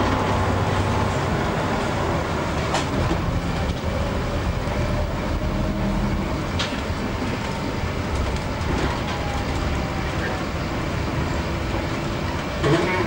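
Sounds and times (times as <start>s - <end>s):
bus body rattling: 0.0s - 13.0s
bus engine running: 0.0s - 13.0s.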